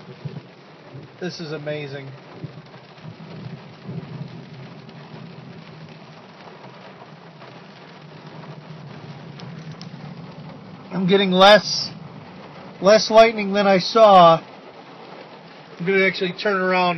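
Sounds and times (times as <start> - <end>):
thunder rumbling: 0.0 - 15.8
heavy rain on car roof: 0.0 - 16.9.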